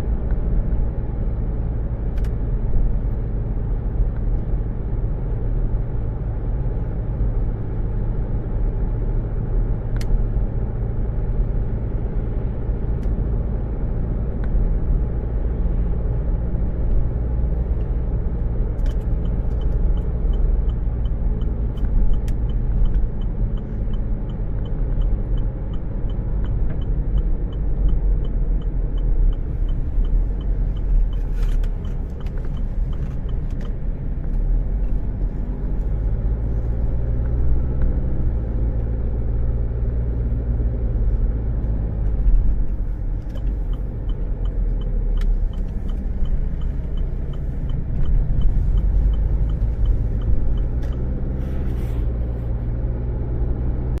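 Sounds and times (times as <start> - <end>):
car engine and tyres rumbling: 0.0 - 54.0
turn signal ticking: 0.0 - 54.0.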